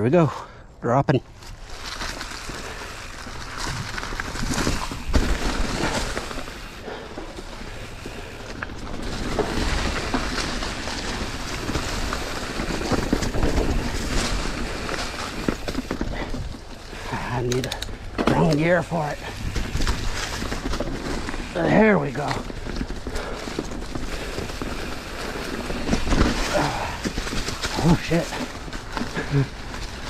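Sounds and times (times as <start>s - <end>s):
tyres crackling over dry leaves: 1.2s - 30.0s
bike clattering over bumps: 1.4s - 30.0s.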